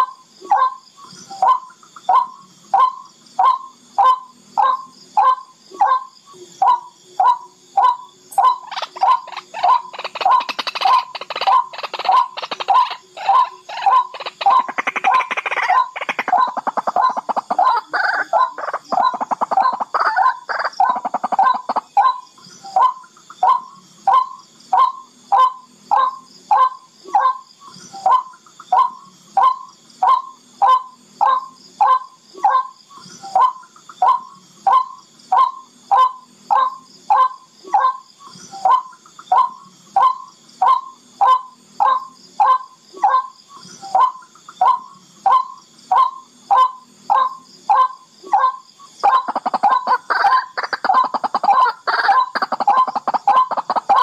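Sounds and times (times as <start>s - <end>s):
bird calling with harsh chatter: 0.0s - 54.0s.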